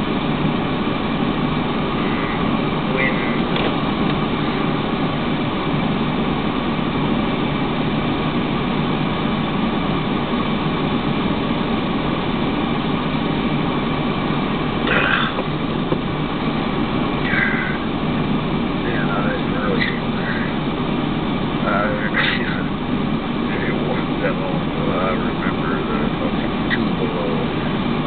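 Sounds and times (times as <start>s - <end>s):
car running inside cabin: 0.0s - 28.0s.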